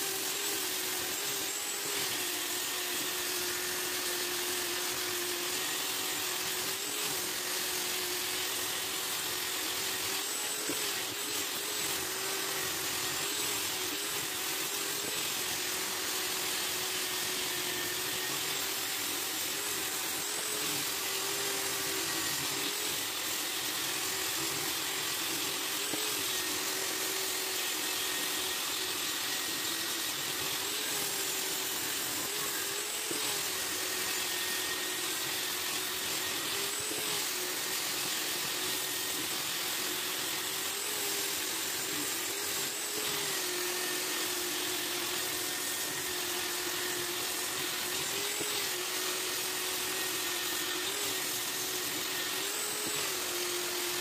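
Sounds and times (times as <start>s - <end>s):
electric polisher sanding wood: 0.0s - 54.0s.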